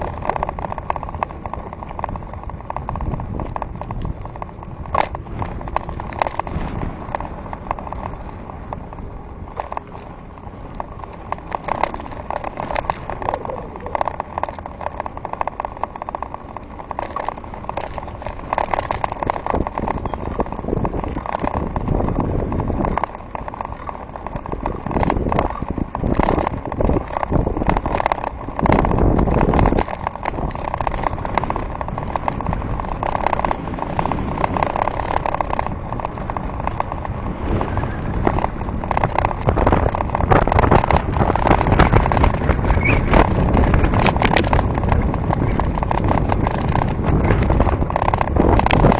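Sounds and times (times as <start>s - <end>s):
tyres on wet tarmac: 0.0s - 48.9s
wind buffeting microphone: 0.0s - 48.9s.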